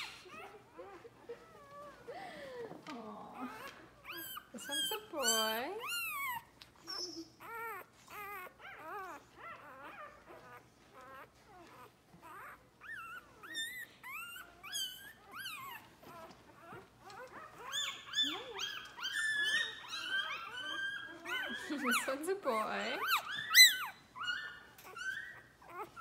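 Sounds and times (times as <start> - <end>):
puppies squealing and whimpering: 0.0 - 2.5, 3.3 - 26.0.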